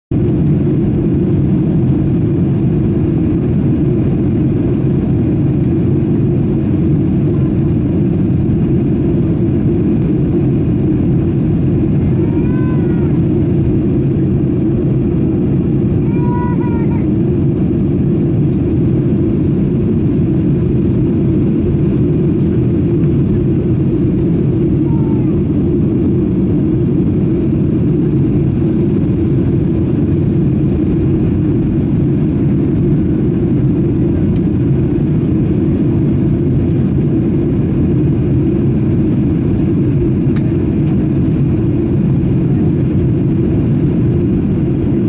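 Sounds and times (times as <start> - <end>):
airliner cabin rumble: 0.1 - 45.0.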